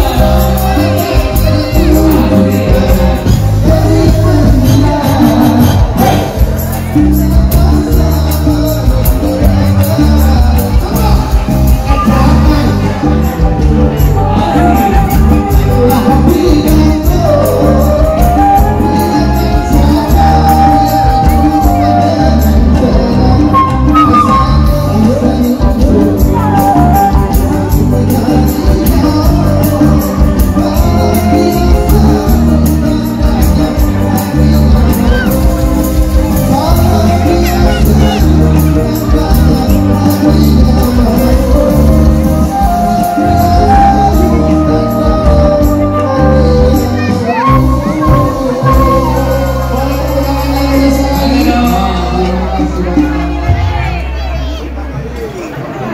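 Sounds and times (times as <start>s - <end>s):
man singing: 0.0s - 54.4s
live band pop song: 0.0s - 55.9s.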